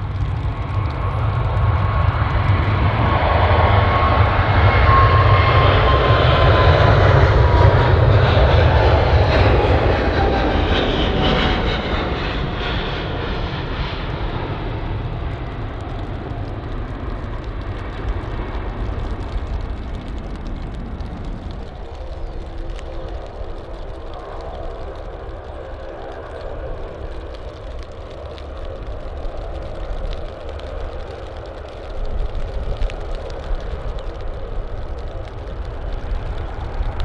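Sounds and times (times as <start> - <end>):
jet engines rumbling and whining: 0.0 - 37.0.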